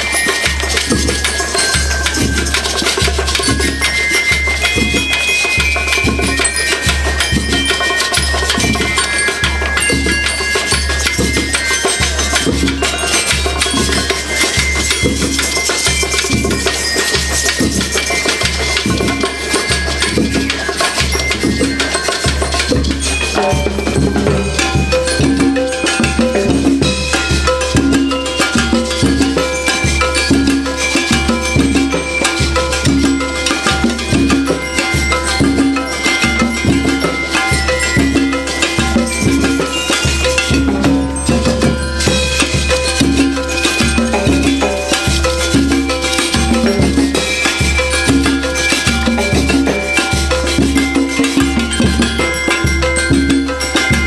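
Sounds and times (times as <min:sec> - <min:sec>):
bell-lyre melody: 0:00.0 - 0:54.0
drums beating steady rhythm: 0:00.0 - 0:54.0.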